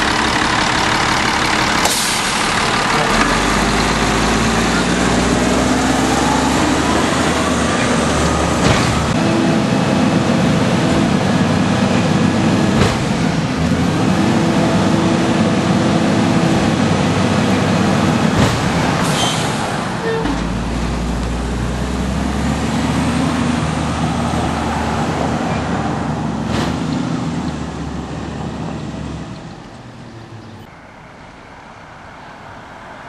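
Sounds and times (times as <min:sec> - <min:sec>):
heavy diesel engine running: 0:00.0 - 0:32.5.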